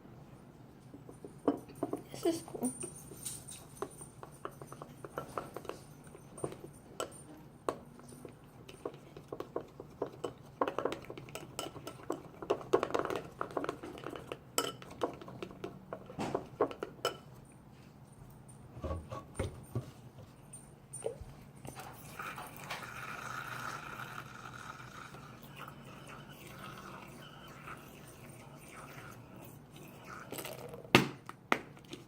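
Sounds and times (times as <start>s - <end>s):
utensil clinking against bowl: 1.0s - 17.4s, 20.5s - 30.8s.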